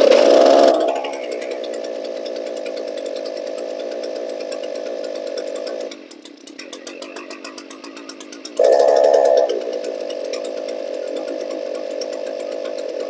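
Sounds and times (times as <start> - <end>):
string trimmer engine running: 0.0 - 13.0.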